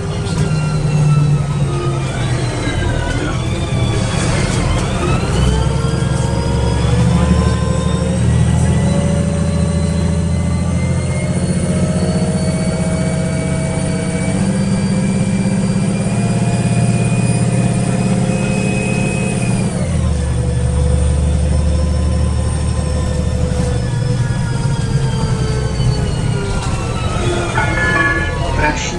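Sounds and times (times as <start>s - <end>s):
bus diesel engine rumbling: 0.0s - 28.9s
gearbox whine: 0.0s - 28.9s.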